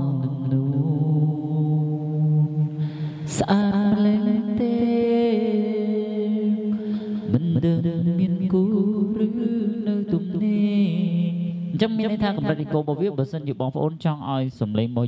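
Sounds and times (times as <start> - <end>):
person singing long notes: 0.0 - 12.7.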